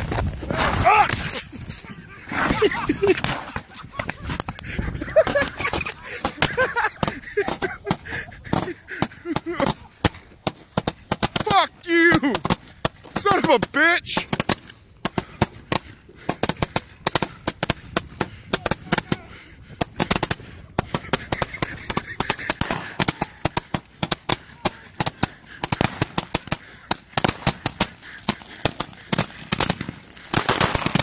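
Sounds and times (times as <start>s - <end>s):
fireworks hissing: 0.0s - 18.8s, 20.0s - 31.0s
firecrackers cracking: 0.0s - 31.0s.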